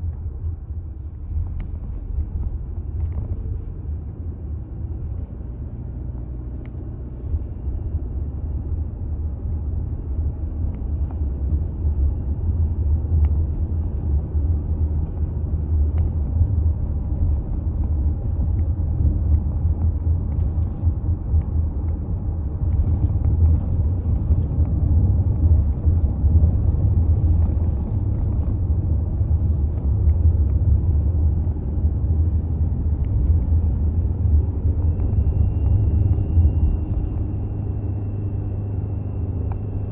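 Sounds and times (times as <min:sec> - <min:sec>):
vehicle road rumble: 0:00.0 - 0:39.9.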